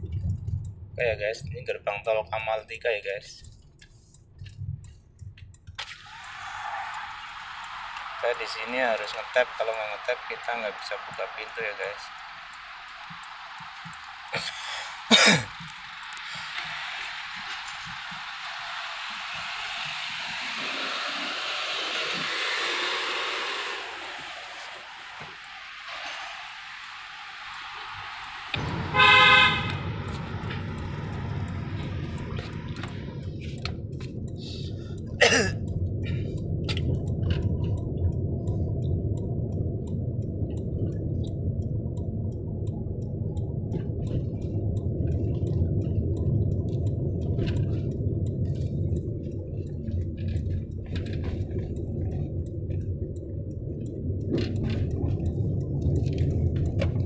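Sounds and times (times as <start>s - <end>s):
faint clicks: 0.0s - 1.6s, 2.9s - 22.5s, 29.7s - 57.0s
car road and engine rumble: 0.0s - 57.0s.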